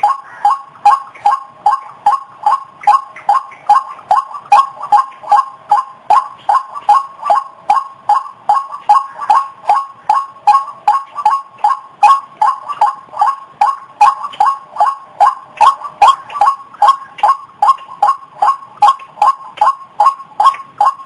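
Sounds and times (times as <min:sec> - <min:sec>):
waterhen calls: 0:00.0 - 0:21.0.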